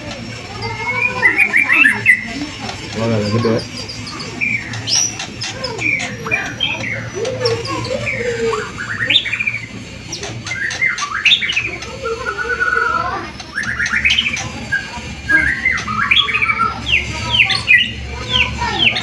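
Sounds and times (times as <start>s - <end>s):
songbird singing: 0.0s - 19.0s
steady low hum: 0.0s - 19.0s.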